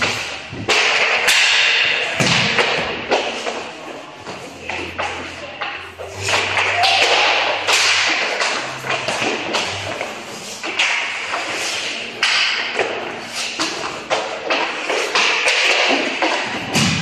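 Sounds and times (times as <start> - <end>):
hockey sticks and pucks clacking: 0.0 - 17.0
skate blades scraping: 0.0 - 17.0.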